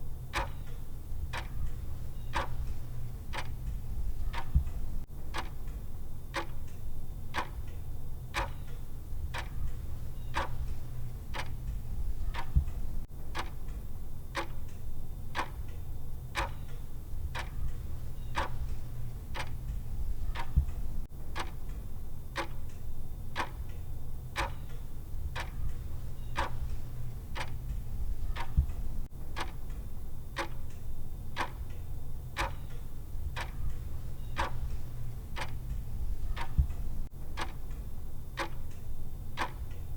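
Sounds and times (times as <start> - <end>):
steady low hum: 0.0 - 39.9
clock ticking: 0.3 - 15.8, 16.4 - 23.8, 24.4 - 39.9.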